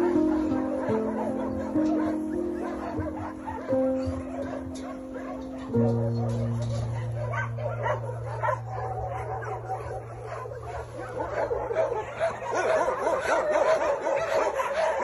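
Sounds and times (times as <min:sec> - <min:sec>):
puppies squealing and whimpering: 0:00.0 - 0:15.0.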